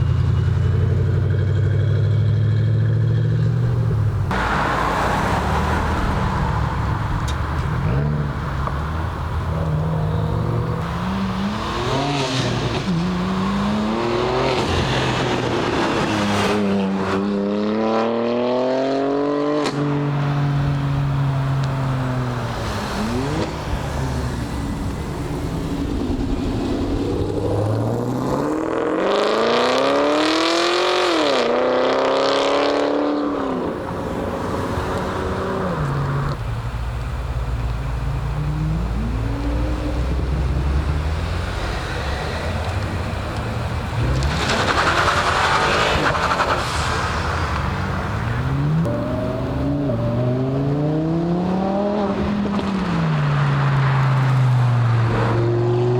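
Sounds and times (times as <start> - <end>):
car engines revving and accelerating: 0.0 - 55.9.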